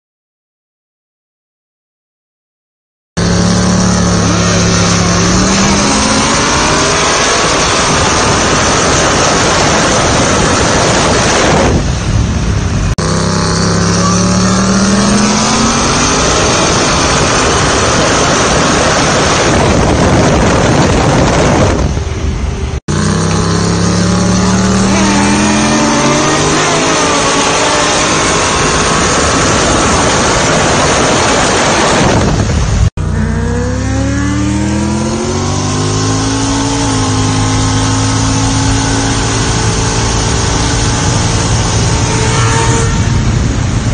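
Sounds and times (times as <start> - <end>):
heavy wind noise: 3.2 - 33.2, 34.0 - 43.9
car engines at full throttle: 3.2 - 43.9.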